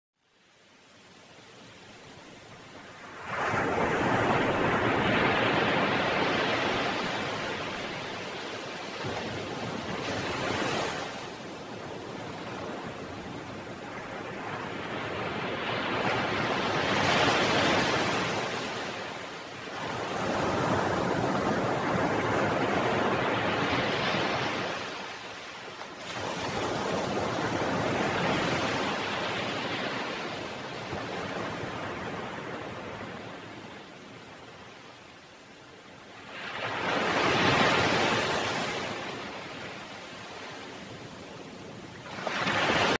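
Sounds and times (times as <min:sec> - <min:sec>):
ocean waves washing: 0:00.4 - 0:42.9.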